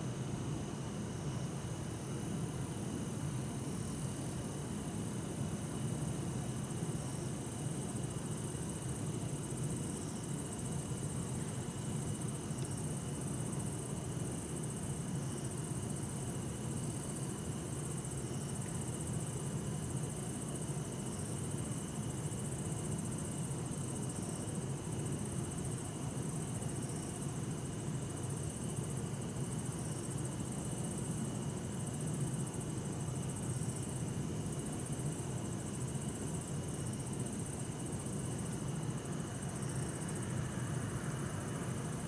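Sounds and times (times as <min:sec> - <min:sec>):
crickets singing: 0:00.0 - 0:42.0.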